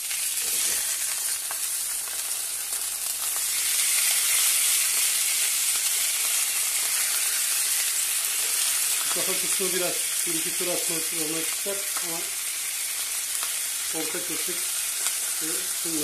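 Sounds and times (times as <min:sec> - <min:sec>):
fish frying in oil: 0:00.0 - 0:16.0.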